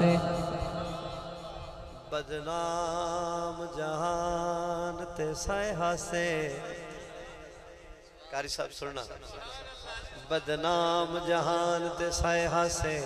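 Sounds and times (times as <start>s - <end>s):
man chanting into microphone: 0.0s - 7.7s, 8.4s - 13.0s.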